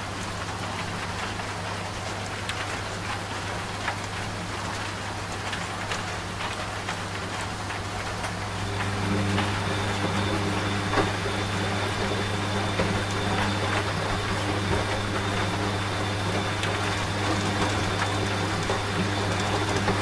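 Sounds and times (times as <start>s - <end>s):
rain falling: 0.0s - 20.0s
washing machine humming: 0.0s - 20.0s.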